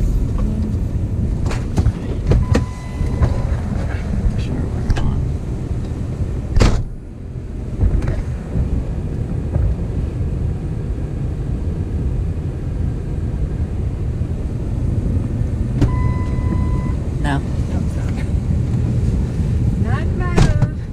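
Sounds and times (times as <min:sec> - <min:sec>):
vehicle rumble from inside cab: 0:00.0 - 0:20.9.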